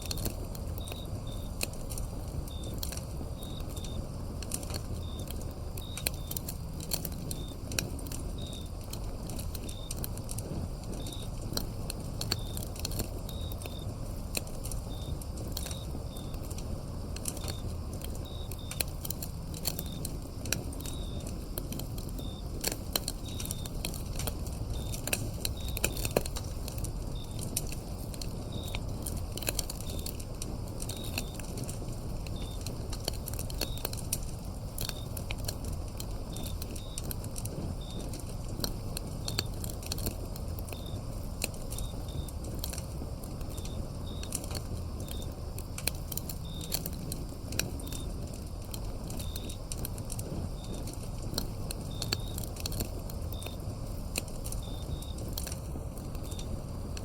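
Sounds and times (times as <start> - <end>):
insects chirping: 0.0 - 57.0
wood fire crackling and popping: 0.0 - 57.0.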